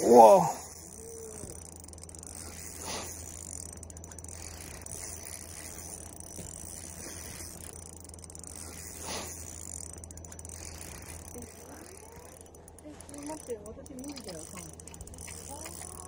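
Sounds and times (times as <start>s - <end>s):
fishing reel gears whirring: 0.0s - 16.0s.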